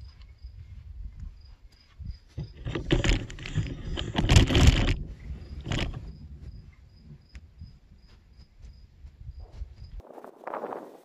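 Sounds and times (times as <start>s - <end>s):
rustling noise: 0.0s - 7.3s, 8.0s - 11.0s
insects chirping: 0.0s - 10.1s.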